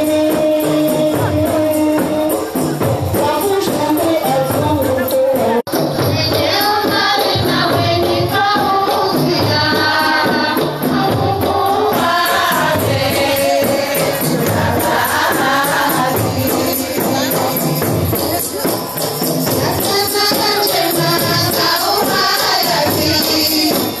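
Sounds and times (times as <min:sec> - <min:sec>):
hand percussion beat: 0:00.0 - 0:24.0
women singing together: 0:00.0 - 0:24.0.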